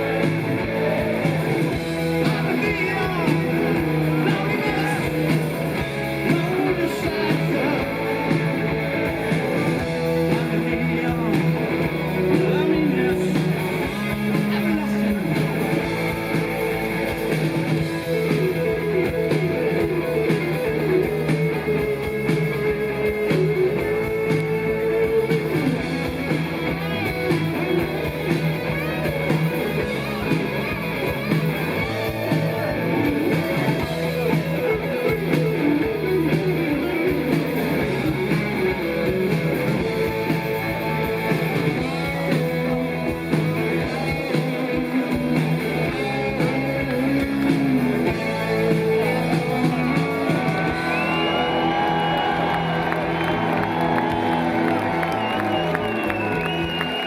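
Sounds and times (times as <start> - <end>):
electric guitar lead melody: 0.0 - 57.0
rock band playing: 0.0 - 57.0.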